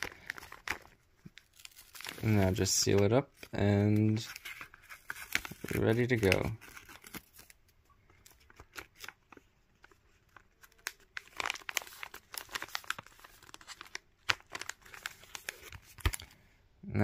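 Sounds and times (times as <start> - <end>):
bubble mailer crinkling: 0.0 - 16.4.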